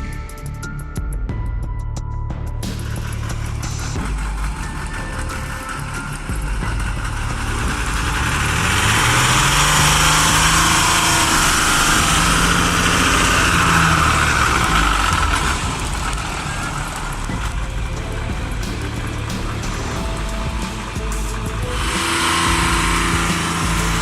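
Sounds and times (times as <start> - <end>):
large vehicle engine under load: 2.6 - 24.0
loud noisy rush: 2.7 - 24.0.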